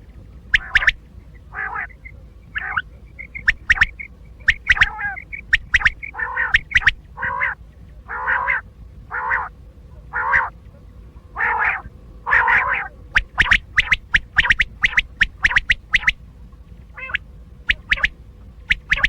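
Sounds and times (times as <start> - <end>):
quail calling: 0.0 - 19.0.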